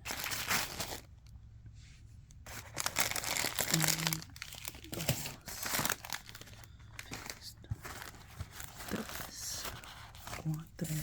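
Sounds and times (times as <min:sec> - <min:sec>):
packaging crinkling and tearing: 0:00.0 - 0:01.2, 0:02.5 - 0:10.9.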